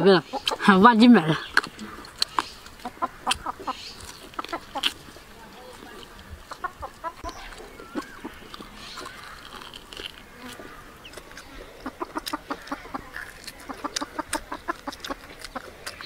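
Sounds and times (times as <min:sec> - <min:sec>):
chewing and lip-smacking: 0:00.3 - 0:16.0.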